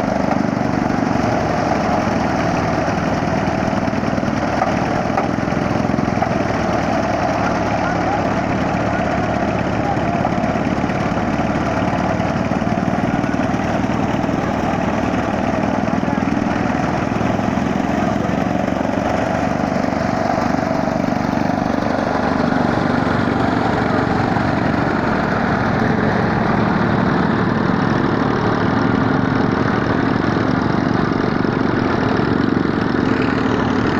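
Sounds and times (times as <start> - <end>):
chaff cutter droning and chattering: 0.1 - 33.9.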